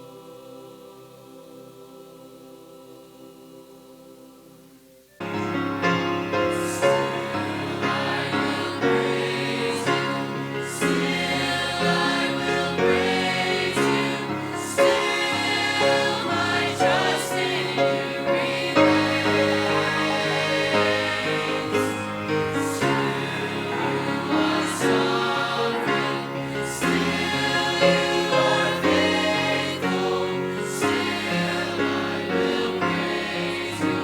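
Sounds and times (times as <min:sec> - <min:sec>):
choir singing gospel song: 0:00.0 - 0:34.0.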